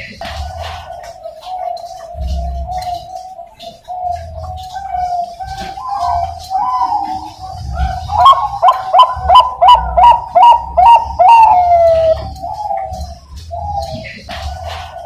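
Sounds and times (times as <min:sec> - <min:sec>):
dove cooing song: 0:00.0 - 0:15.0.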